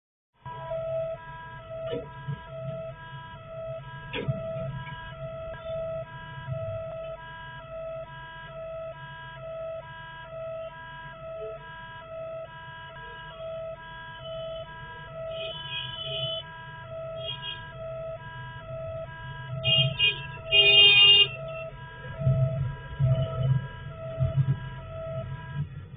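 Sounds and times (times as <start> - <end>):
harsh alarm blasts: 0.4 - 25.8
level crossing alarm beeping: 0.5 - 25.6.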